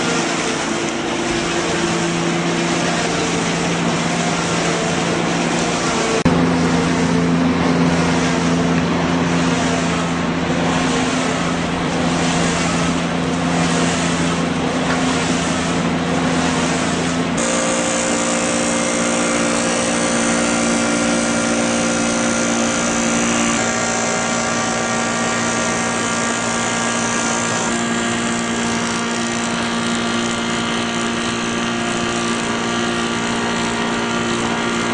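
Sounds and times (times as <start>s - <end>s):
lathe machine hum: 0.0s - 34.9s.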